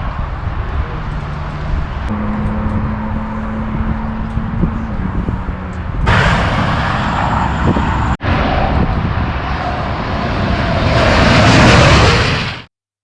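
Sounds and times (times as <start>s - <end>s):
rushing vehicle noise: 0.0s - 12.7s.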